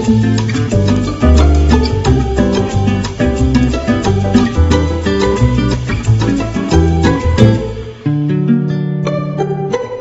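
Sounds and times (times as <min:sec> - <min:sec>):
latin salsa music: 0:00.0 - 0:10.0.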